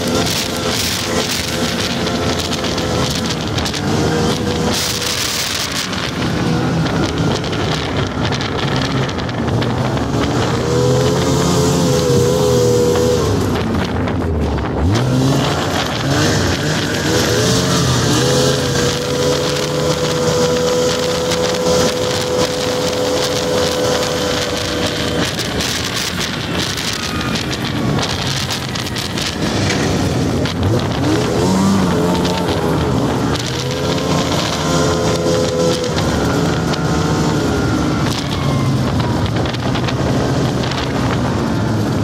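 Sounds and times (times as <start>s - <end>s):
snowmobile engine running: 0.0s - 42.0s.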